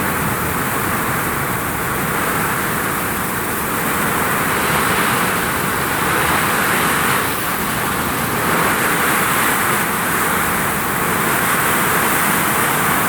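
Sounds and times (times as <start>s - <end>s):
heavy rain on a vinyl roof: 0.0s - 13.0s.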